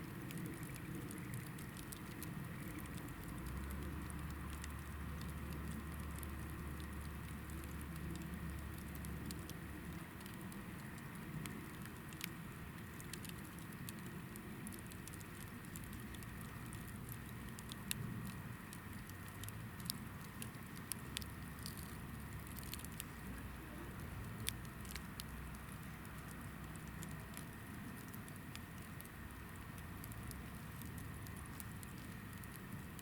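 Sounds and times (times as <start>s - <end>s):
firewood popping and crackling: 0.0s - 33.0s
low steady rumble: 0.0s - 33.0s.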